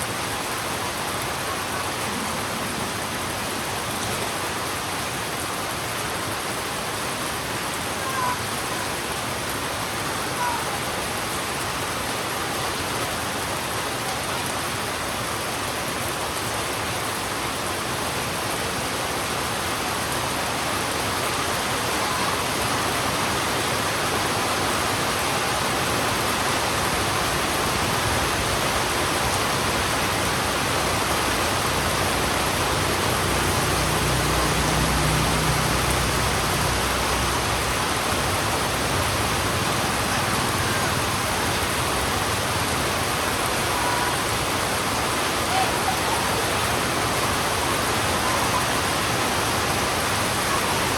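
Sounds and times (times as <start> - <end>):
heavy rain on a road: 0.0 - 50.9.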